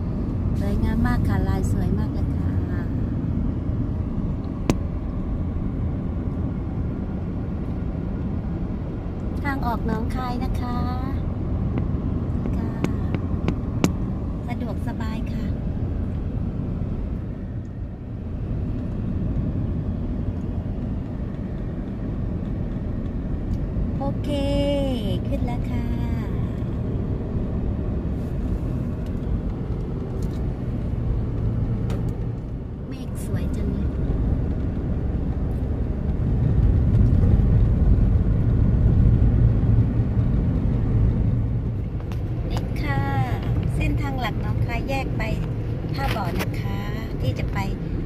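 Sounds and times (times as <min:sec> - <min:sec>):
car tyres and engine rumble: 0:00.0 - 0:48.0.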